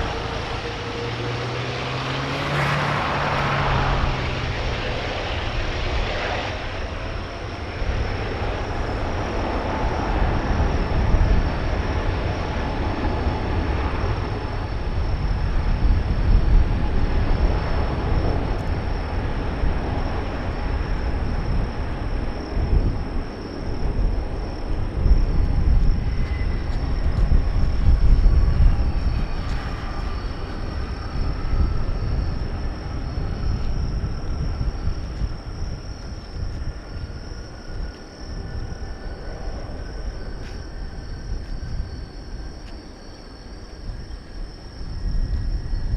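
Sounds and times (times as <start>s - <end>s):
jet engines rumbling at takeoff: 0.0s - 45.9s.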